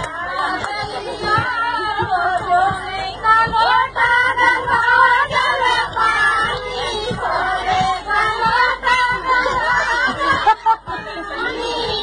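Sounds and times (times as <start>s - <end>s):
steady thumping beat: 0.0s - 12.0s
women singing a lively song: 0.0s - 12.0s.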